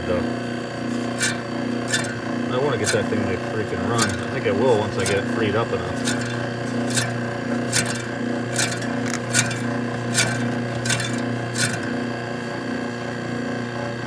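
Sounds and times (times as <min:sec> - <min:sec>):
air conditioner humming: 0:00.0 - 0:14.0
scraping click: 0:00.8 - 0:12.2.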